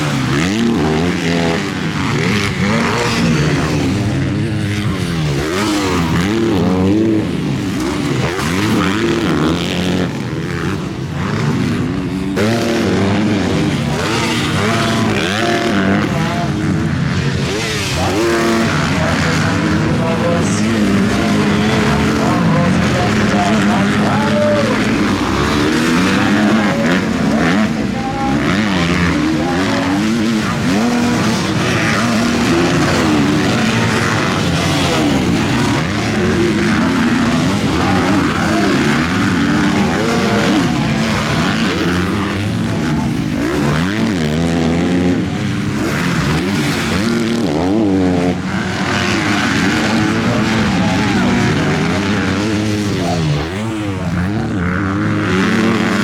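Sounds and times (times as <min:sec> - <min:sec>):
motocross motorcycle engines revving: 0:00.0 - 0:56.0.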